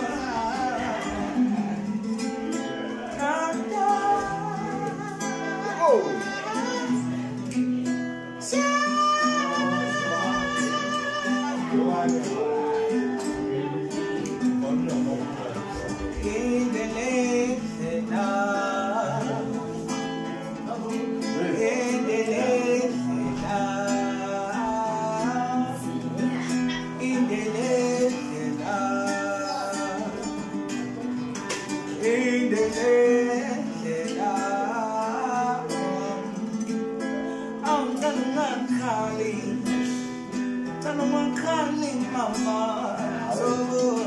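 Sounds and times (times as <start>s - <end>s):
acoustic guitar picked and strummed: 0.0s - 44.0s
man singing: 0.0s - 44.0s.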